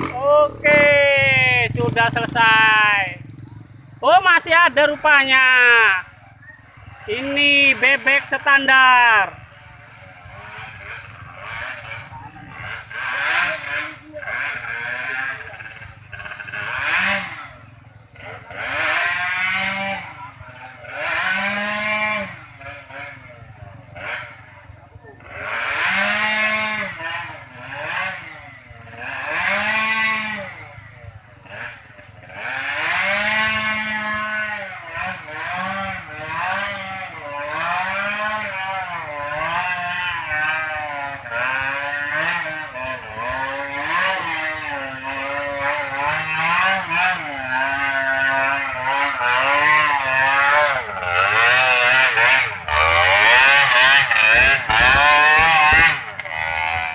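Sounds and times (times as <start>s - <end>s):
small motorcycle engine revving: 0.0s - 56.9s.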